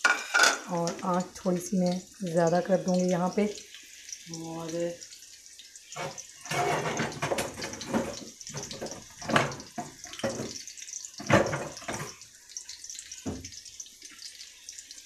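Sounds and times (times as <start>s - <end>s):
oil crackles and spatters: 0.0s - 15.0s
onions sizzling in hot oil: 0.0s - 15.0s.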